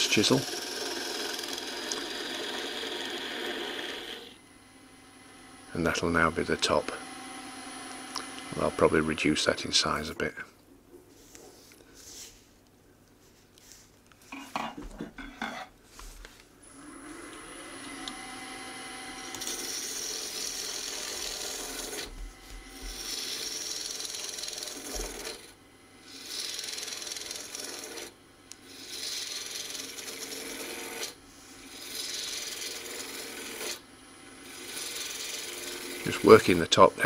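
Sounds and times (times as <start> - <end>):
lathe running hum: 0.0 - 10.0, 16.6 - 37.0
tool cutting wood on lathe: 0.0 - 10.1, 16.6 - 37.0.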